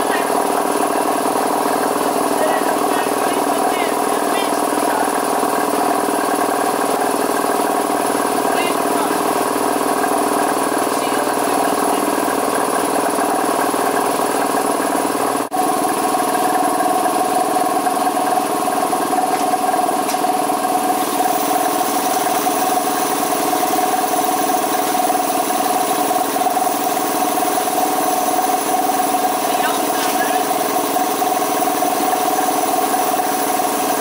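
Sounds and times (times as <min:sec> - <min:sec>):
model steam engine running: 0:00.0 - 0:34.0.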